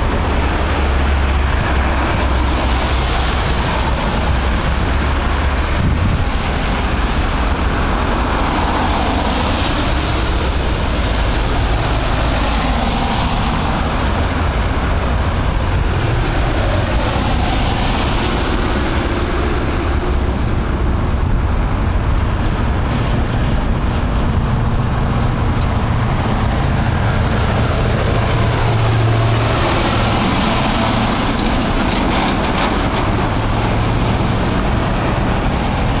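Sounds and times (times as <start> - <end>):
wind blowing over microphone: 0.0 - 36.0.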